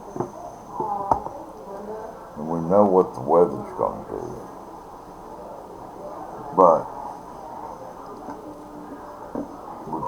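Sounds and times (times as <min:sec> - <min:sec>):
low background hiss: 0:00.0 - 0:10.0.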